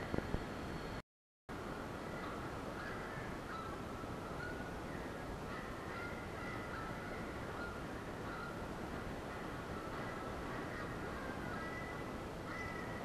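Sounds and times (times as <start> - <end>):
videotape hiss: 0.0 - 13.0
faint wavering tones: 1.6 - 13.0.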